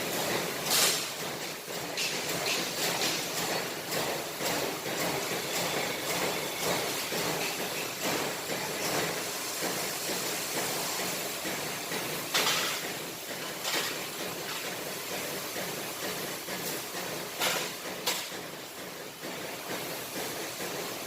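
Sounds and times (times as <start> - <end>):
machine shop noise: 0.0 - 21.0.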